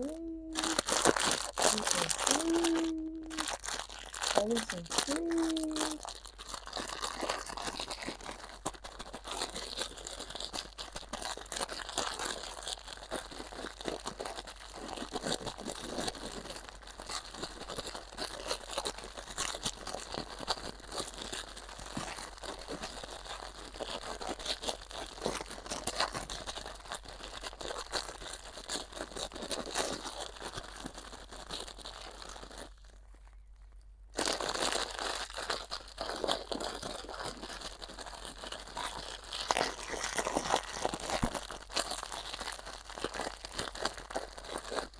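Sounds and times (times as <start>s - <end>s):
crinkling and crackling: 0.0s - 44.9s.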